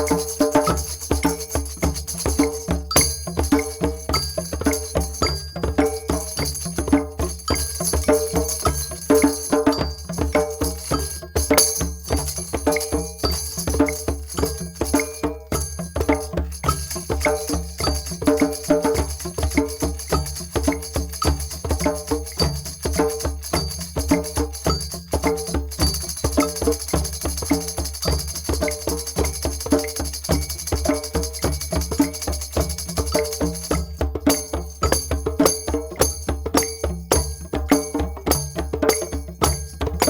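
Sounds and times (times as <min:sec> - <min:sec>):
jingling: 0:00.0 - 0:33.8
drums and hand percussion: 0:00.0 - 0:40.0.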